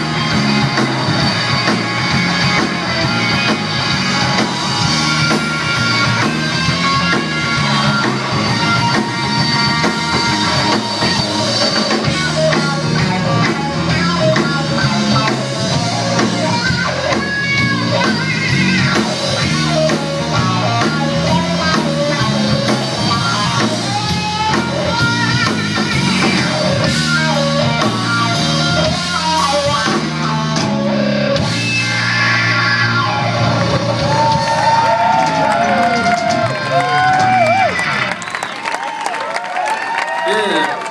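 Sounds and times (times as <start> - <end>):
drum kit: 0.0 - 38.5
electric guitar: 0.0 - 40.9.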